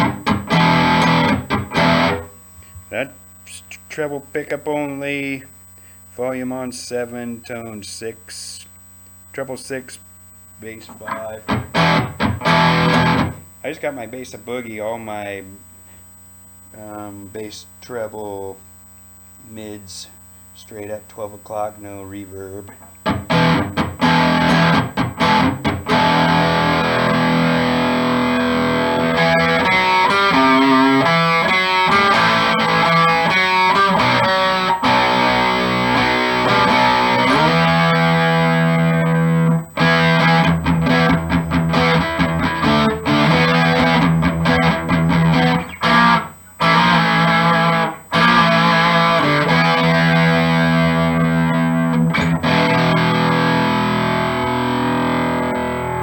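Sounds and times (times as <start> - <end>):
distorted electric guitar: 0.0 - 20.0, 20.6 - 56.0.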